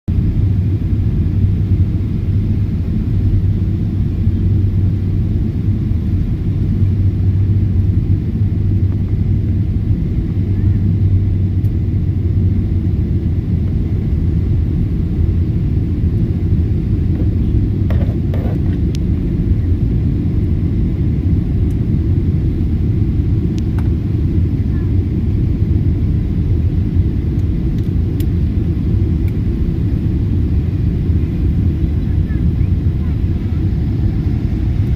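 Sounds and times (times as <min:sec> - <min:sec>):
jet engines rumbling in cabin: 0:00.1 - 0:34.9.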